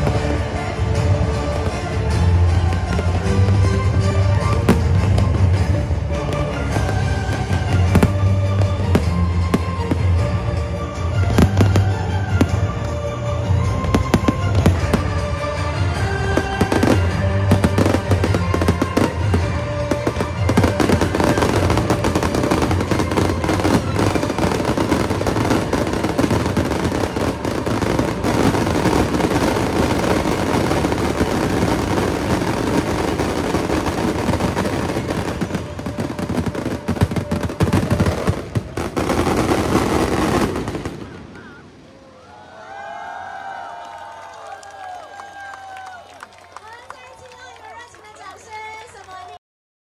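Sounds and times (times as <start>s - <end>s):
music: 0.0s - 41.0s
fireworks bursting and crackling: 0.0s - 42.1s.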